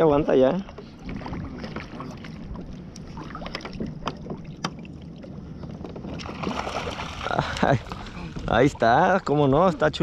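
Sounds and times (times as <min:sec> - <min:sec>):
water around kayak: 0:00.0 - 0:10.0
wind noise on microphone: 0:01.0 - 0:10.0.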